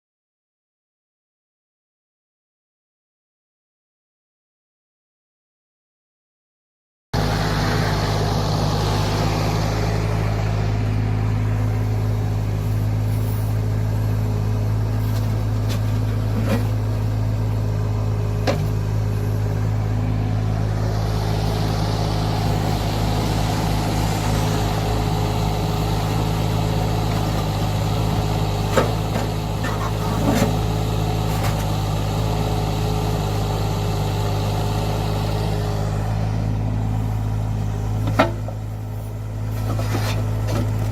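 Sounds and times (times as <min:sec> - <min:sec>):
loader engine running: 0:07.2 - 0:40.9.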